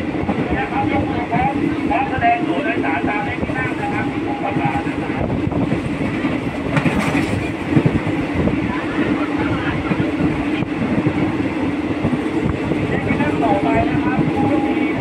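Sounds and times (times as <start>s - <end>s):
train clatter: 0.0s - 15.0s
train wheels rumbling on rails: 0.0s - 15.0s.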